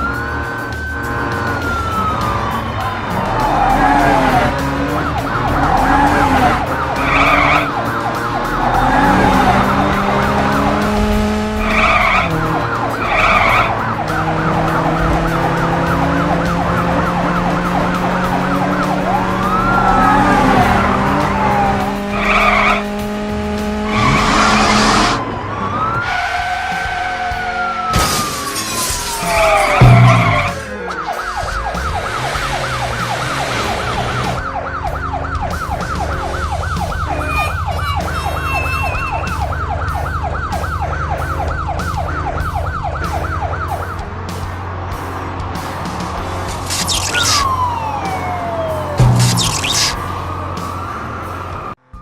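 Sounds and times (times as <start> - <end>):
cartoon background music: 0.0 - 25.2, 25.8 - 51.2
siren-like pitch glides: 0.0 - 44.0, 46.6 - 52.0
vehicle sound effects: 0.0 - 52.0.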